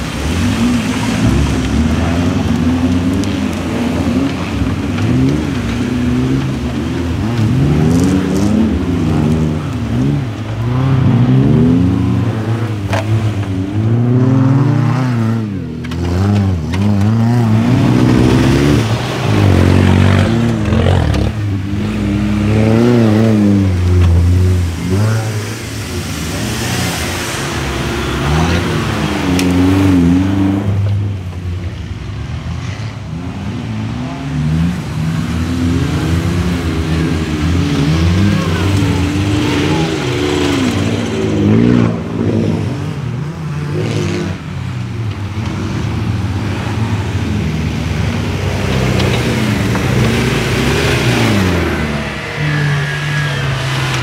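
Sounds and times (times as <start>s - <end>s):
suv engines revving: 0.0s - 54.0s.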